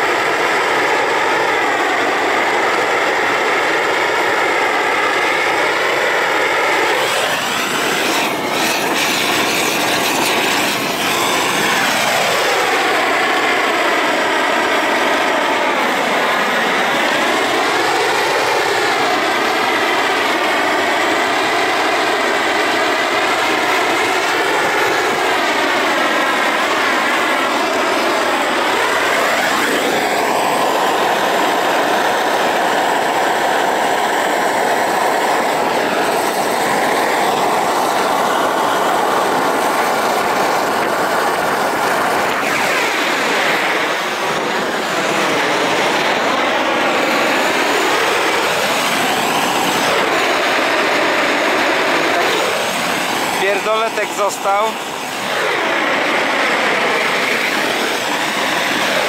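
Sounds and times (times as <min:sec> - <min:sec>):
propane torch roaring: 0:00.0 - 0:59.0.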